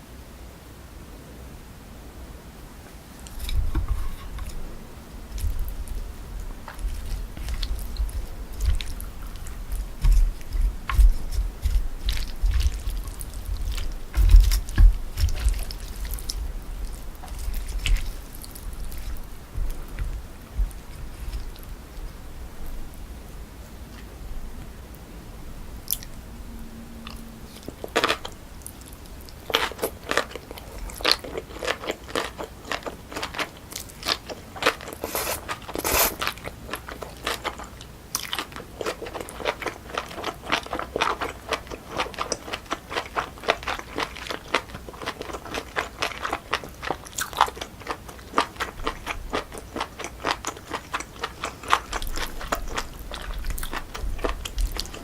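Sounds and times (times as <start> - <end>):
close chewing clicks and crackles: 3.2 - 22.8, 25.8 - 26.2, 27.0 - 55.0.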